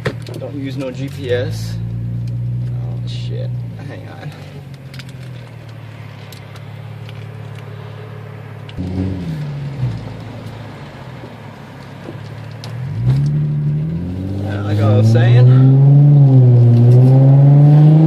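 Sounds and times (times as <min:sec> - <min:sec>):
car engine humming while driving: 0:00.0 - 0:18.0.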